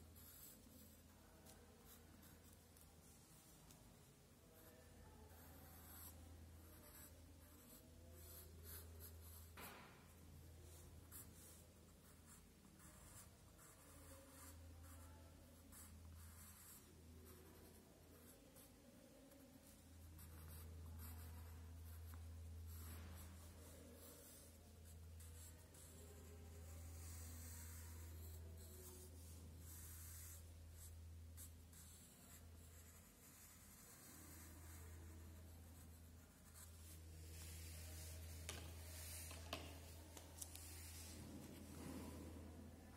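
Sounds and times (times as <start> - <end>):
pen scratching on paper: 0.0 - 3.9, 4.5 - 42.4.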